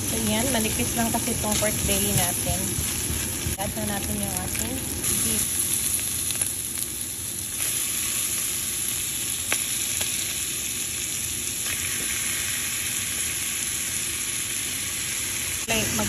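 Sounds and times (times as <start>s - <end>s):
meat sizzling in a wok: 0.0s - 16.0s.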